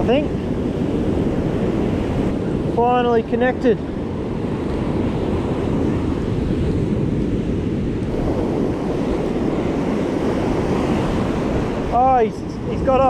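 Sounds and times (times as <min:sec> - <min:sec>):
ocean surf breaking on beach: 0:00.0 - 0:13.0
wind rumbling on microphone: 0:00.0 - 0:13.0.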